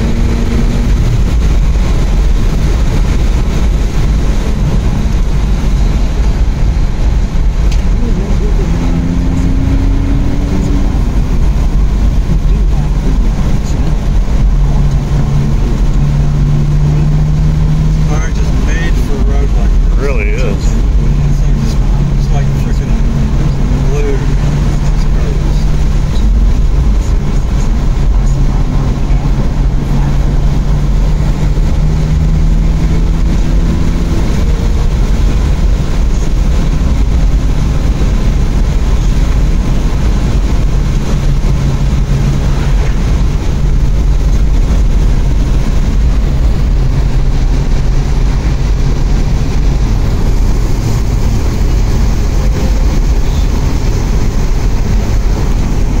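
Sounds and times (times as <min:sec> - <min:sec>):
car engine running: 0:00.0 - 0:56.0
road and tyre noise: 0:00.0 - 0:56.0.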